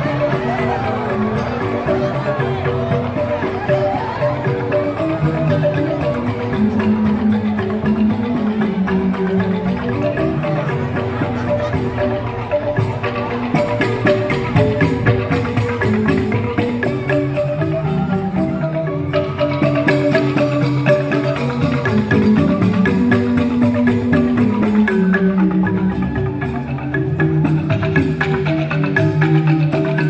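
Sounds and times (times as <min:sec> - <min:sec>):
bamboo xylophones playing fast: 0:00.0 - 0:30.0
steady percussive pulse: 0:00.0 - 0:30.0.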